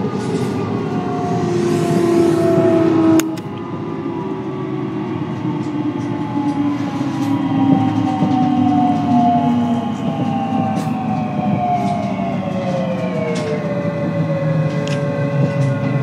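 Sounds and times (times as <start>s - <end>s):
traction motor whine: 0.0s - 16.0s
train wheel and rail noise: 0.0s - 16.0s.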